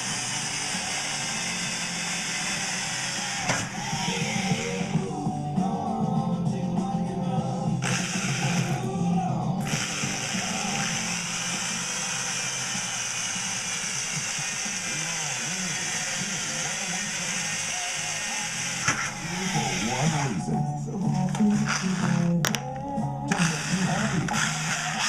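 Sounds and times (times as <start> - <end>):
background music: 0.0 - 25.0
motor whine: 0.0 - 25.0.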